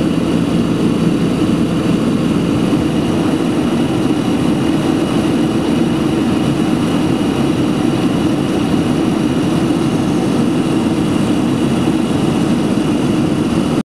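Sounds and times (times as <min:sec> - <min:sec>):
airplane cabin engine drone: 0:00.0 - 0:13.8
faint steady whines: 0:00.0 - 0:13.8.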